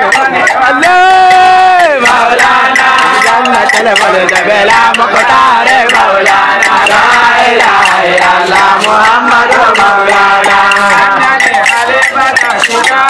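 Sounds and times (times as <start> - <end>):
men chanting: 0.0 - 13.0
steady beat of sharp hits: 0.0 - 13.0.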